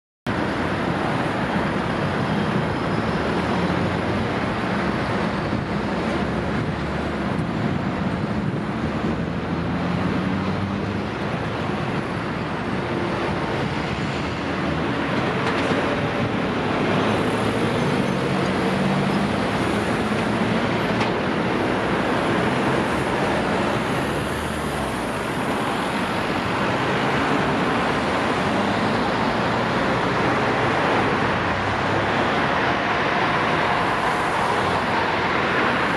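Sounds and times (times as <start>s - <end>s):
car and lorry engines running: 0.3s - 35.9s.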